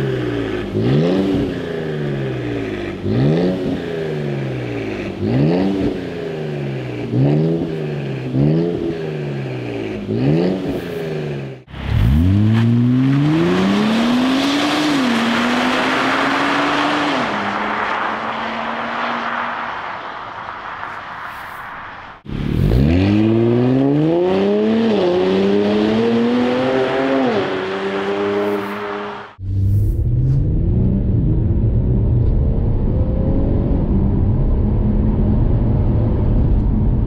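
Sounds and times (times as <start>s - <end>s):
car accelerating hard with upshifts: 0.0s - 19.9s, 22.3s - 36.7s.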